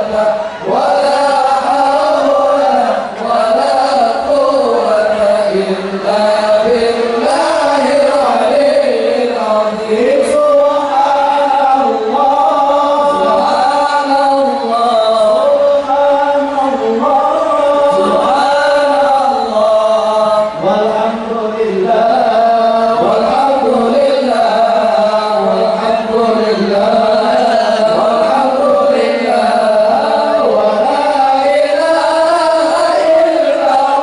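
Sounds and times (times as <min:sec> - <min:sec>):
man chanting: 0:00.0 - 0:34.0.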